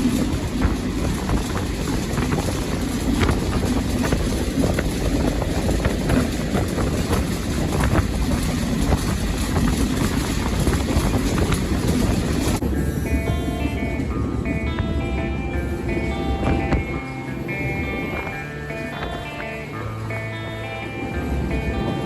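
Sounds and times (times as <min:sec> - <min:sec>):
train clanks and rattles: 0:00.0 - 0:22.0
train rumbling: 0:00.0 - 0:22.0.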